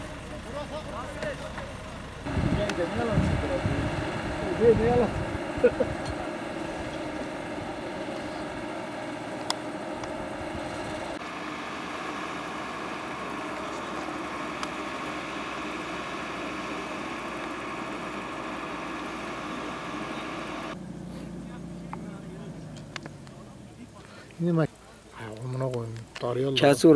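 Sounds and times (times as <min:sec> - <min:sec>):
vehicle engine idling: 0:00.0 - 0:26.9.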